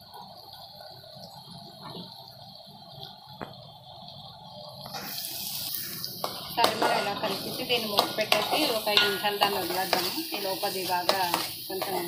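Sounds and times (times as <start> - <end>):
gravy sizzling in oil: 0.0 - 12.0.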